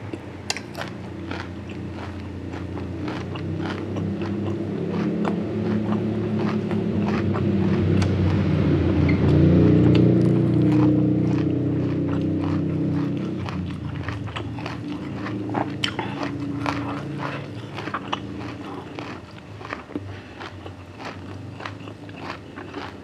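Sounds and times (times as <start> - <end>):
crunchy chewing: 0.0 - 23.0
low steady hum: 0.0 - 23.0.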